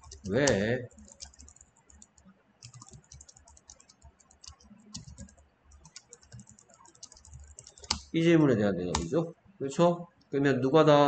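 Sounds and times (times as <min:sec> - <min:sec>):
computer keyboard typing: 0:00.0 - 0:09.2.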